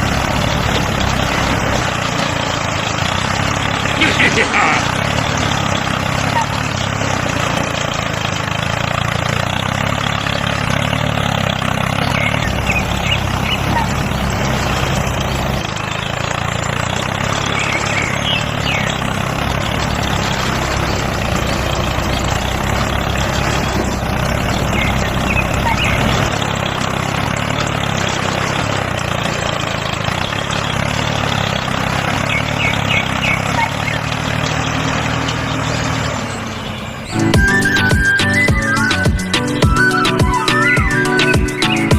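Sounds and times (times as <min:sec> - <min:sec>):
small tractor motor running: 0:00.0 - 0:41.9.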